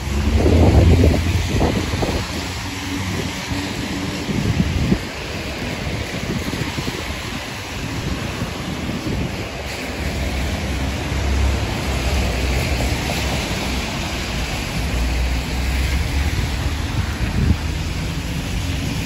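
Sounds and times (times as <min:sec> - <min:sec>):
rain on pavement: 0:00.0 - 0:19.0
traffic hiss on wet streets: 0:00.0 - 0:19.0
wind rumble on microphone: 0:00.0 - 0:19.0.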